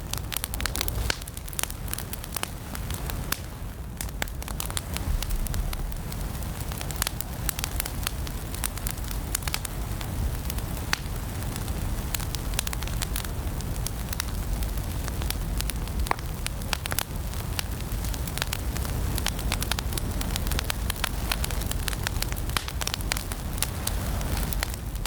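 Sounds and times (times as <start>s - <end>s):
fire crackling and popping: 0.0s - 25.0s
fire low rumble: 0.0s - 25.0s.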